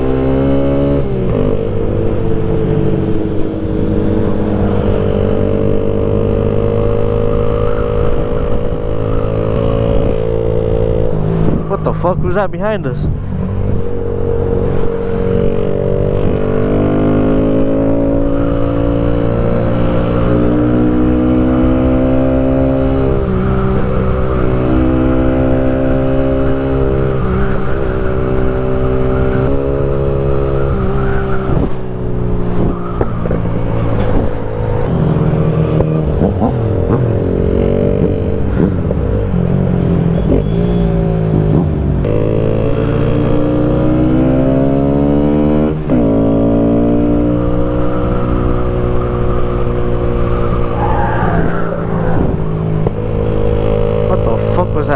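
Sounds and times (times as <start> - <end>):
motorcycle engine shifting gears: 0.0 - 54.9.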